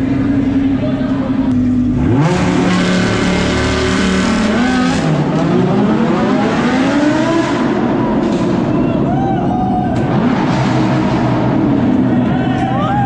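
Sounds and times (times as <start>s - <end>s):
sports car engine revving: 0.0s - 9.1s, 9.9s - 12.3s.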